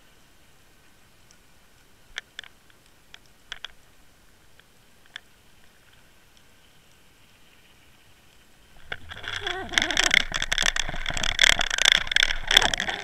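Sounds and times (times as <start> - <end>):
faint steady hum: 0.0 - 13.0
sharp underwater clicks: 1.2 - 13.0.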